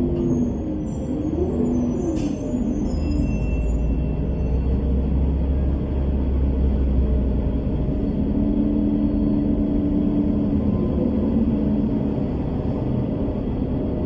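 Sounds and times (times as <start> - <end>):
bus engine and road rumble: 0.0 - 14.0
engine hum: 0.0 - 14.0.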